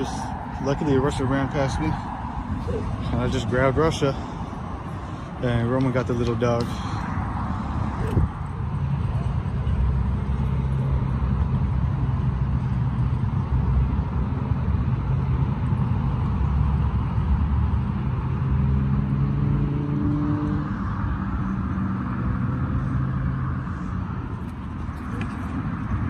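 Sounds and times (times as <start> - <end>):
passing engine: 0.0 - 26.0
road traffic rumble: 0.0 - 26.0.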